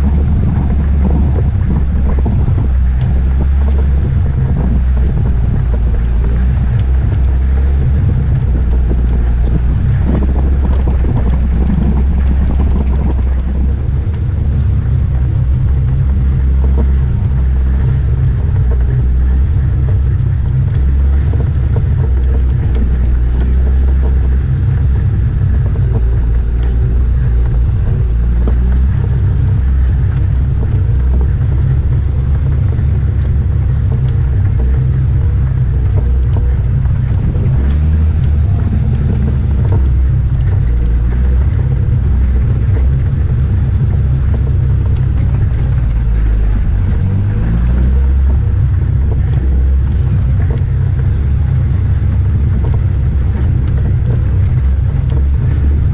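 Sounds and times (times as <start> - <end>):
vehicle engine rumble: 0.0 - 55.9
vehicle jostling over rough ground: 0.0 - 55.9.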